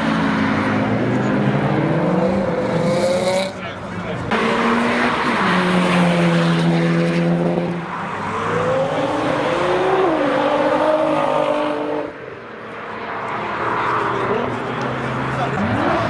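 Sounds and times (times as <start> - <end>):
car engine revving: 0.0 - 12.2, 13.3 - 16.0.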